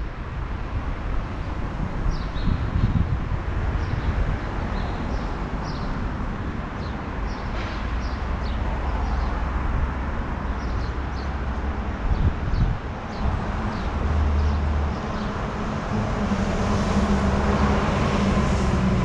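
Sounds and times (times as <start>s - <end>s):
traffic rumble: 0.0s - 19.0s
wind: 0.0s - 19.0s.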